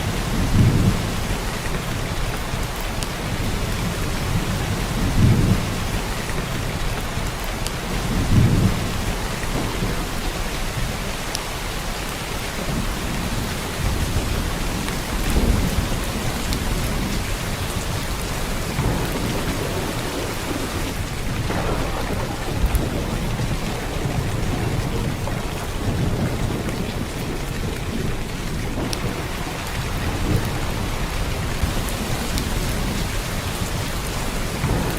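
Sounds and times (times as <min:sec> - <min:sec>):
heavy rain hissing: 0:00.0 - 0:34.9.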